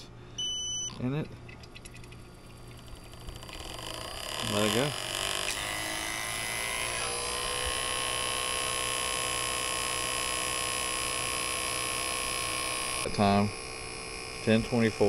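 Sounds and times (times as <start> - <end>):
vacuum pump motor hum and whine: 0.0 - 1.2, 2.0 - 15.0.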